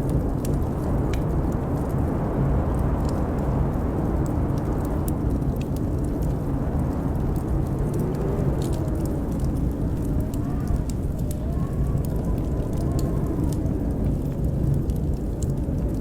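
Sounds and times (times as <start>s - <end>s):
blizzard wind howling: 0.0s - 16.0s
wood fire crackling and popping: 0.0s - 16.0s.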